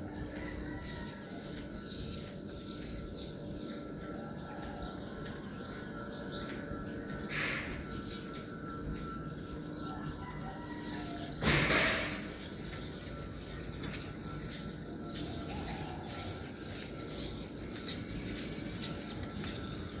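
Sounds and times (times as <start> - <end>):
birds chirping: 0.0 - 20.0
insects humming: 0.0 - 20.0.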